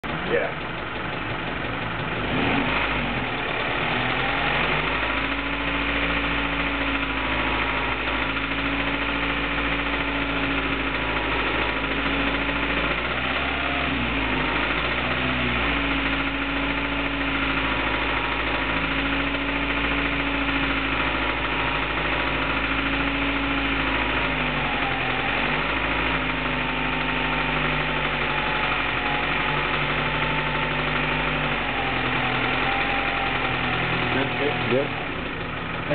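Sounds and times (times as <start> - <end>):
car engine idling with knocking: 0.0 - 35.9.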